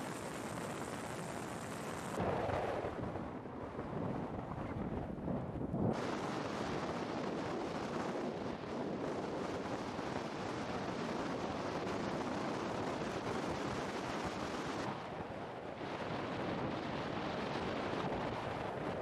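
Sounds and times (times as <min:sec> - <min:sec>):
volcanic eruption rushing: 0:00.0 - 0:19.0
wind on microphone: 0:00.0 - 0:19.0.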